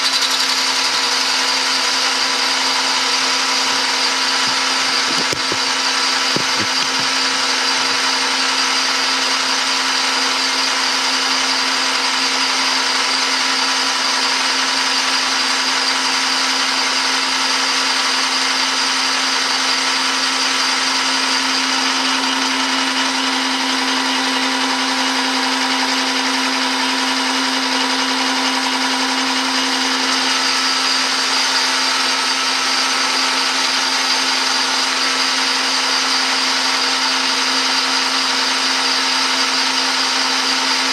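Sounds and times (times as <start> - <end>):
metal lathe cutting with high whine: 0.0 - 40.9.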